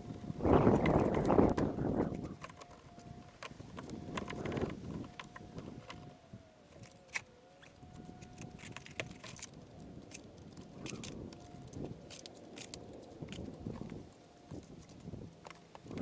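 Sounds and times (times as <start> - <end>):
faint steady tone: 0.0 - 16.0
small clicks and taps on stone: 0.7 - 6.1, 6.8 - 16.0.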